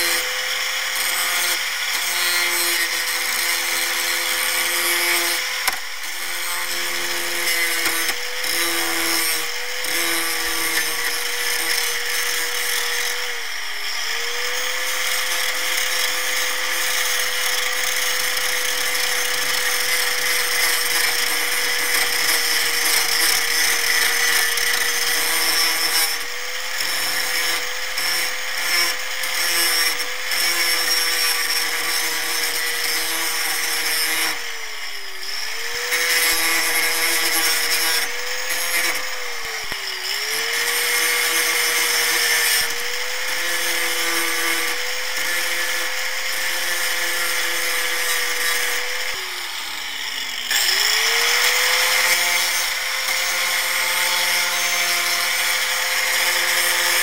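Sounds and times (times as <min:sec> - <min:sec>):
angle grinder grinding steel: 0:00.0 - 0:57.0.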